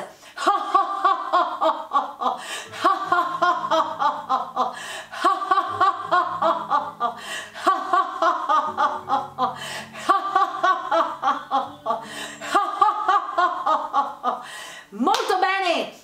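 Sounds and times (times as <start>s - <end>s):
background music: 0.0s - 15.9s
woman laughing: 0.4s - 14.5s.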